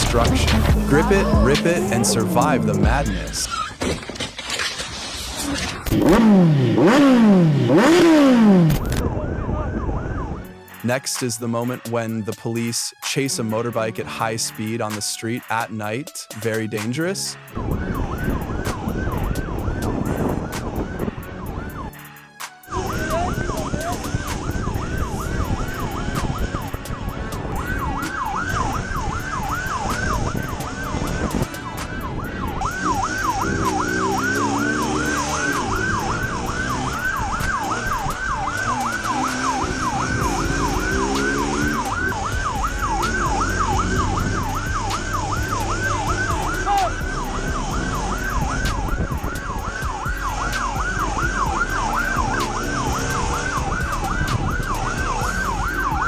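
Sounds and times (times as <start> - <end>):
police siren yelping: 0.0 - 3.9, 5.5 - 11.0, 16.8 - 56.0
engine and road noise: 0.0 - 11.9, 17.1 - 56.0.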